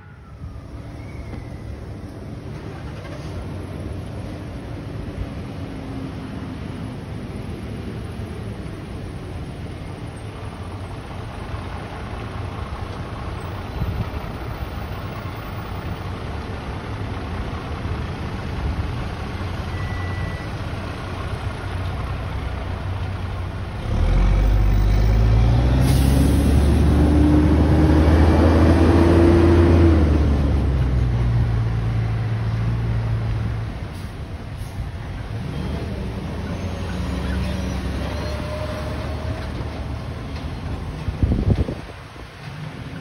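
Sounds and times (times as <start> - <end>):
fire truck diesel engine: 0.0 - 43.0.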